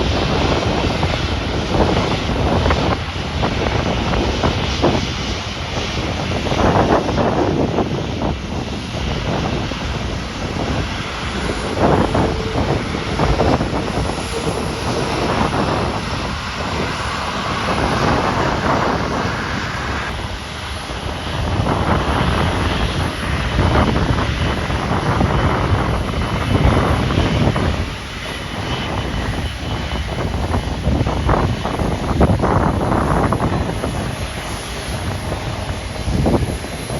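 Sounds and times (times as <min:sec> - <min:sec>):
airliner engines roaring: 0:00.0 - 0:36.9
wind buffeting microphone: 0:00.0 - 0:36.9.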